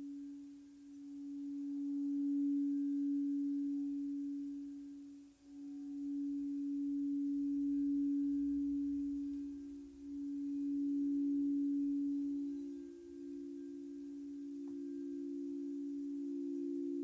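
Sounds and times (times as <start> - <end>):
faint higher tone: 0.0 - 17.0
low pure humming tone: 0.0 - 17.0.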